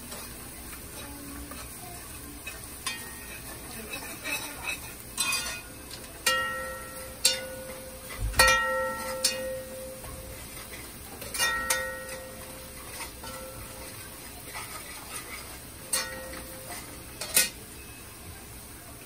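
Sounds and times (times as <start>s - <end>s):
metal spoon clinking in a pot: 2.4s - 18.0s.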